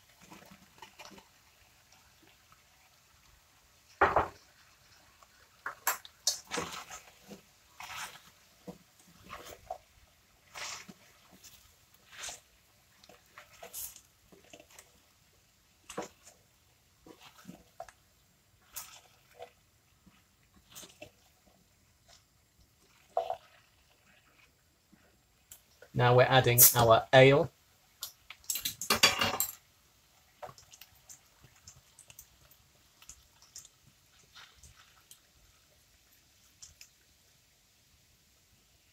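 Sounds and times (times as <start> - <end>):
spatula stirring in a pan: 0.0 - 26.8, 27.5 - 38.9.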